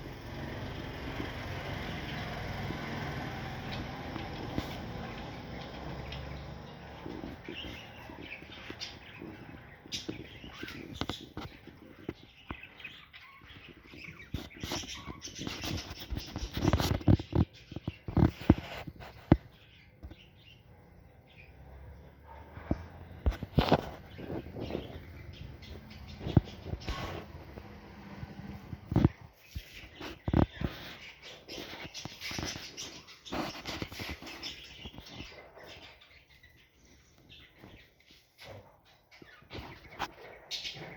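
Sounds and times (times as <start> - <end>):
parrots calling: 0.2 - 20.7, 21.3 - 40.9.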